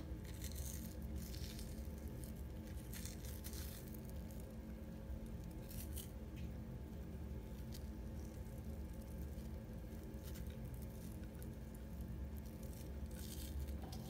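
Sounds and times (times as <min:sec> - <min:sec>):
bacon tearing and squishing: 0:00.0 - 0:06.5, 0:07.2 - 0:14.0
steady low hum: 0:00.0 - 0:14.0.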